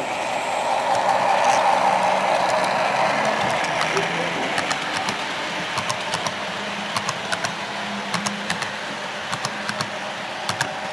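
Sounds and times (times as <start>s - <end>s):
model train motor hum: 0.0s - 10.9s
wheels clicking over rail joints: 0.8s - 10.9s.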